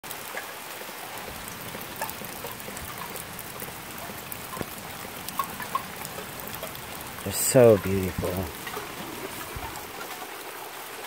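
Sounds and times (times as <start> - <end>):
rain falling: 0.0 - 11.0
drops ticking close by: 1.1 - 10.2.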